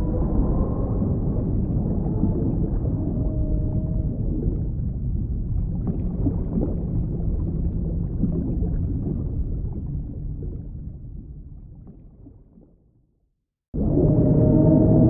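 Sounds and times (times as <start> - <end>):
low underwater rumble: 0.0 - 13.2, 13.8 - 15.0.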